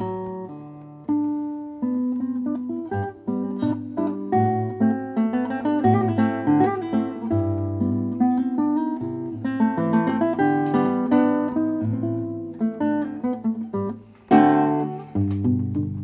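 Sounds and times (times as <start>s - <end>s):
classical guitar fingerpicking: 0.0s - 16.0s.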